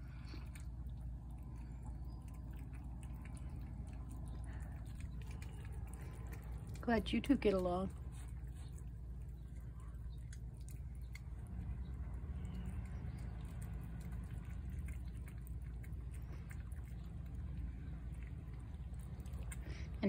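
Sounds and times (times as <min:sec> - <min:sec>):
cats chewing and licking: 0:00.0 - 0:20.0
low background rumble: 0:00.0 - 0:20.0.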